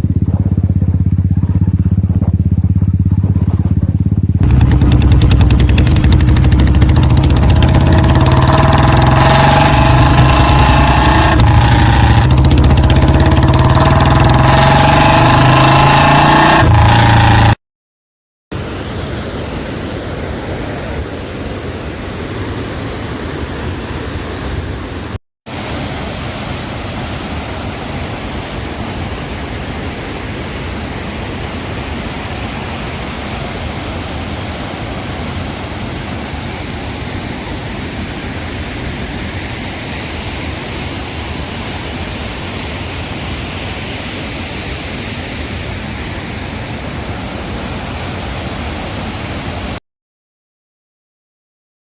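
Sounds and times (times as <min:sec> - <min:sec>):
waterfall rushing: 0:04.4 - 0:17.4, 0:18.6 - 0:49.8.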